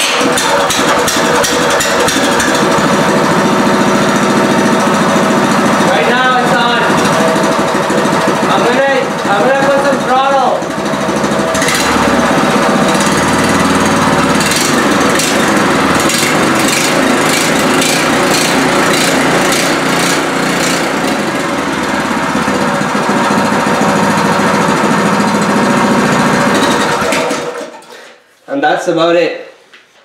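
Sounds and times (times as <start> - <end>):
small engine running: 0.0 - 27.9.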